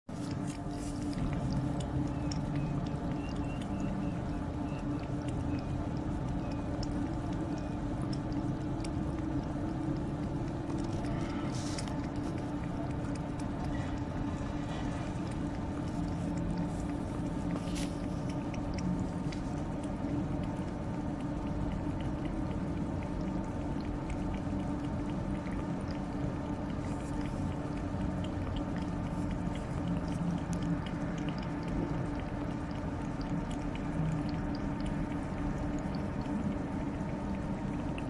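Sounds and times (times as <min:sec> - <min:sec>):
cat chewing and licking: 0:00.1 - 0:38.0
steady low hum: 0:00.1 - 0:38.0.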